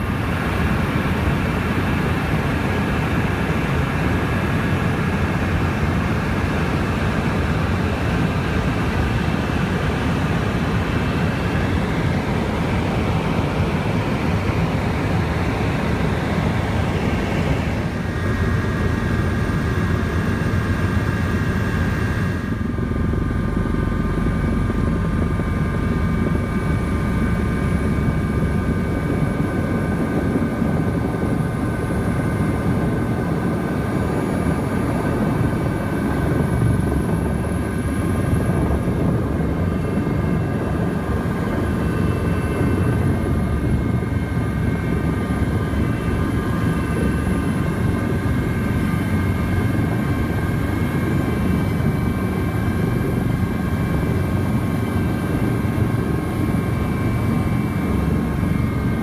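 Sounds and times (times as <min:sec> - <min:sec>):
helicopter rotor drone: 0:00.0 - 0:59.0
high-pitched turbine whine: 0:00.0 - 0:59.0.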